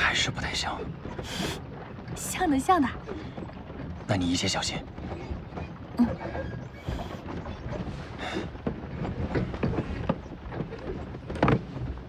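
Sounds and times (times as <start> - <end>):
wooden cart creaking and knocking: 0.0 - 12.0
hooves clopping: 1.0 - 12.0.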